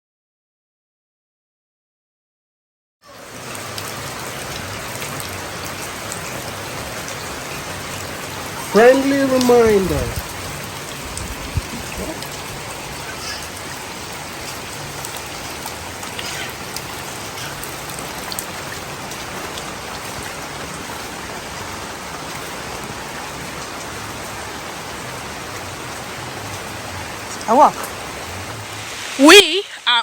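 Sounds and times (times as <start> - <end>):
steady rain: 3.0 - 30.0.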